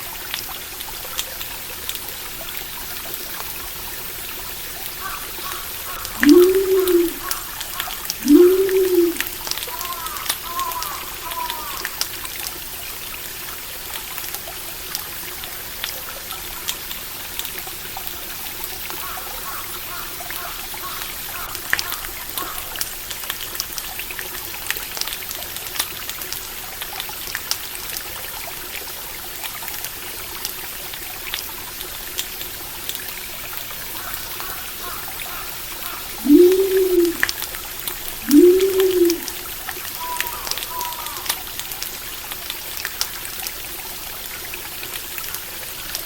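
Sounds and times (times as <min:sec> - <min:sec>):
stream trickling: 0:00.0 - 0:46.0.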